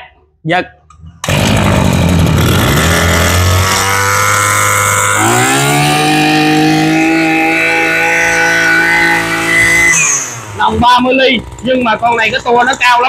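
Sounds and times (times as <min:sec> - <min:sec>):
brush cutter engine running: 0:01.2 - 0:13.0.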